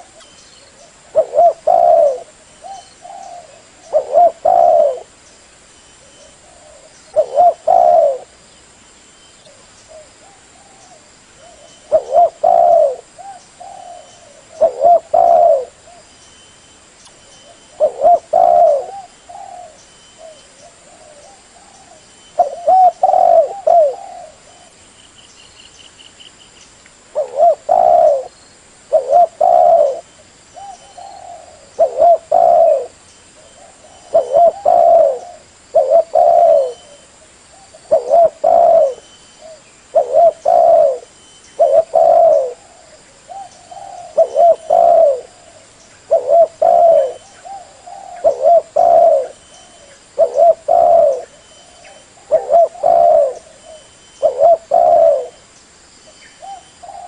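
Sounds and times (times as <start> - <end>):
dove cooing: 0.0 - 5.2, 6.0 - 8.4, 9.4 - 16.1, 17.4 - 24.8, 27.1 - 55.4, 56.4 - 57.0.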